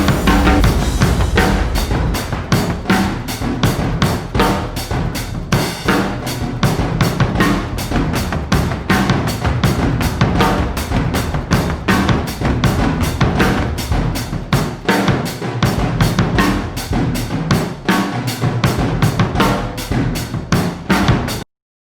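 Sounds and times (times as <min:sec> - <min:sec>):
music with fast drum beat: 0:00.0 - 0:21.4.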